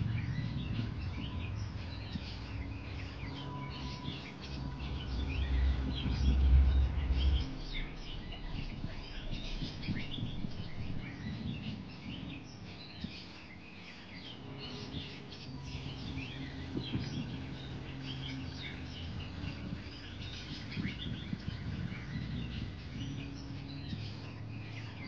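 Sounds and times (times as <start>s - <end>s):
low background hum: 0.0s - 25.0s
small birds chirping: 0.0s - 25.0s.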